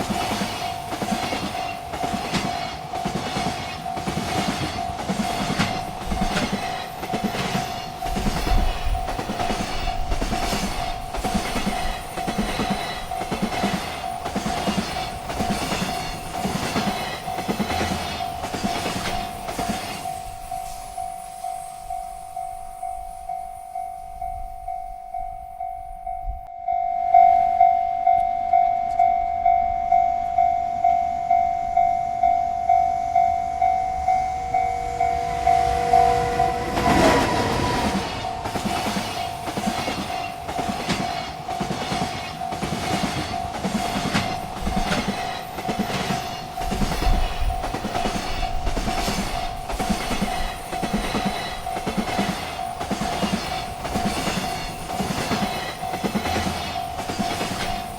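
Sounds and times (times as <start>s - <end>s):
train wheels clacking on rails: 0.0s - 26.0s, 28.1s - 57.9s
railroad crossing bell dinging: 0.0s - 57.9s.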